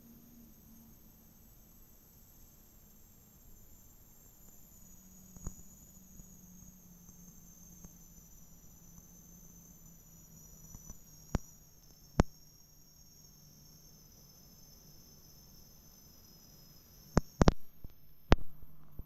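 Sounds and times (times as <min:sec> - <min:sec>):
faint high whine: 0:00.0 - 0:19.0
faint low hum: 0:00.0 - 0:19.0.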